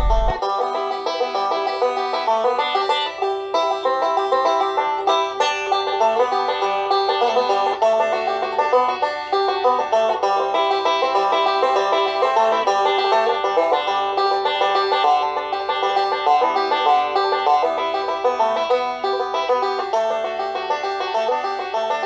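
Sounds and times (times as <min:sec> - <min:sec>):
banjo-led country tune: 0:00.0 - 0:22.0.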